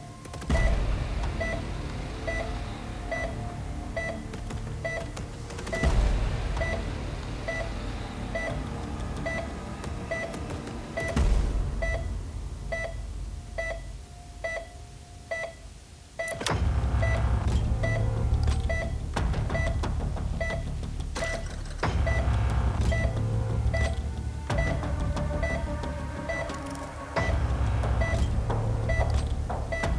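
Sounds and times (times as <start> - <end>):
low rumbling drone: 0.5 - 15.4, 16.5 - 29.9
two-tone electronic beeping: 1.4 - 1.7, 2.3 - 6.0, 6.6 - 11.2, 11.8 - 29.9.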